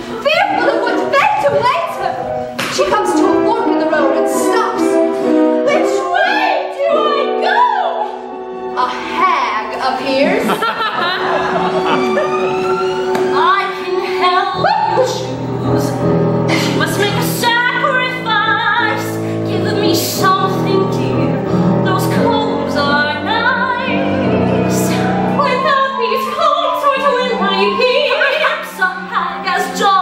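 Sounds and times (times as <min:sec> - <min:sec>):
operatic singing with vibrato: 0:00.0 - 0:30.0
sustained instrumental accompaniment: 0:00.6 - 0:29.9.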